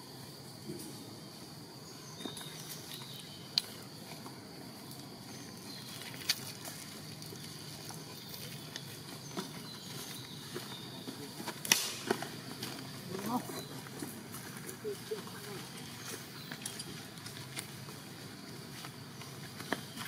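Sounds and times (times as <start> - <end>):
small clicks and rustles in grass: 2.1 - 20.0.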